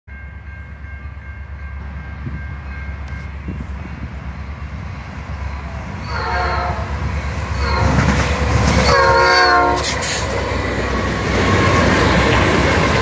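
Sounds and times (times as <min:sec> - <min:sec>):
freight train rumble: 0:00.1 - 0:13.0.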